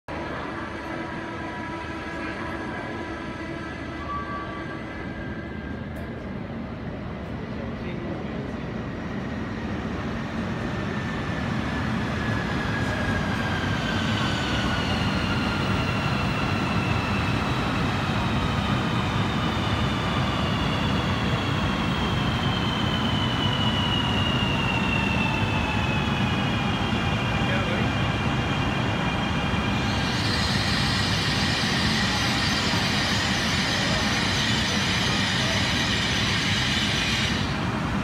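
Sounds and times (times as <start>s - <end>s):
train wheels rumbling on rail: 0.1s - 38.0s.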